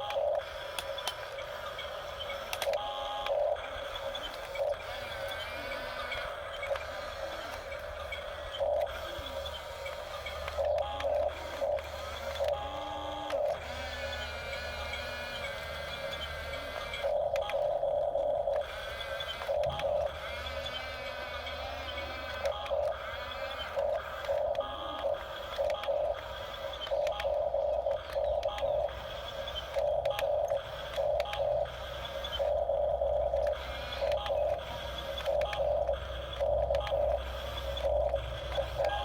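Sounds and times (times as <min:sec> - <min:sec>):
steady low hum: 0:00.0 - 0:39.0
toy electric motors whining: 0:00.0 - 0:39.0.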